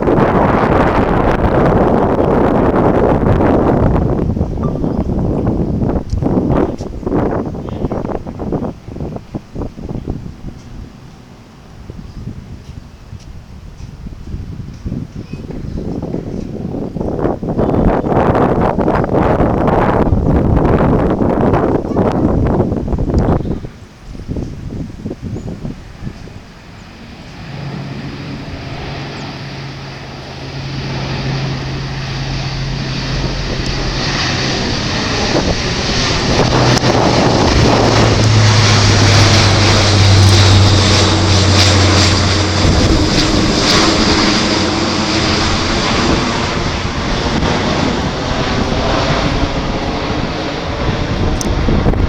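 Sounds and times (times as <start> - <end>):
turboprop aircraft droning past: 0.0 - 52.0.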